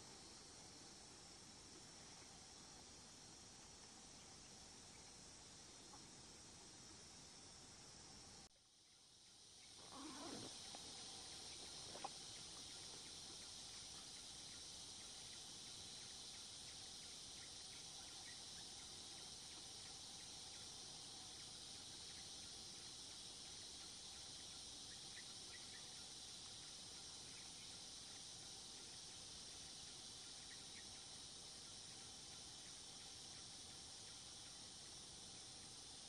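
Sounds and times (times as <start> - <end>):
faint chirps: 0.0 - 36.0
insects buzzing: 0.0 - 36.0.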